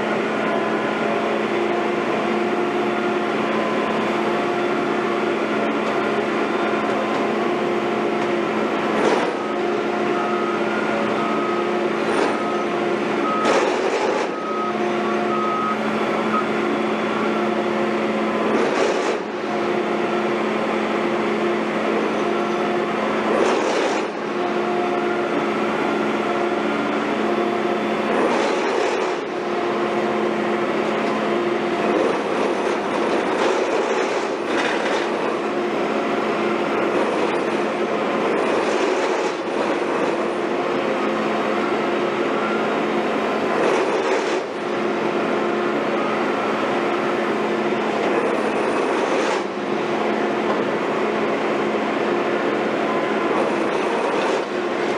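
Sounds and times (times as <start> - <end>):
constant whine: 0.0 - 54.9
construction machinery running: 0.0 - 54.9.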